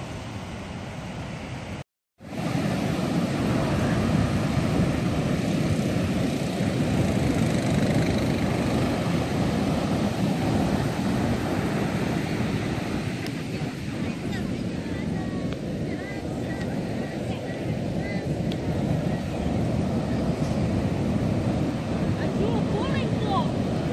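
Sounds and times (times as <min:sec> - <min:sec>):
ocean surf breaking on beach: 0:00.0 - 0:23.9.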